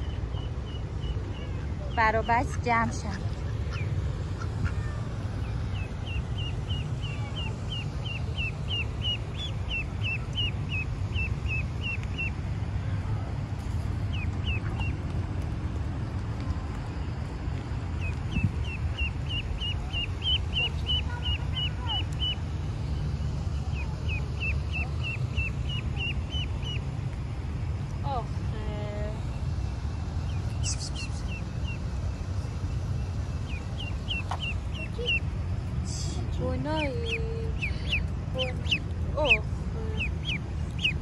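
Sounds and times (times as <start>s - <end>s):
duckling peeping: 0.0s - 12.4s, 13.8s - 15.1s, 17.0s - 27.0s, 29.1s - 41.0s
steady low rumble: 0.0s - 41.0s.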